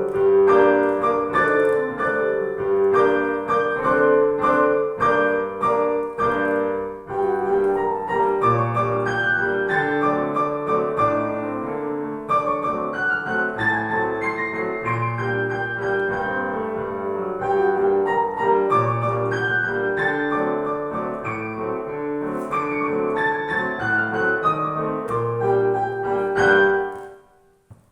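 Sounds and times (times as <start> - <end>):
piano duet: 0.0 - 27.9.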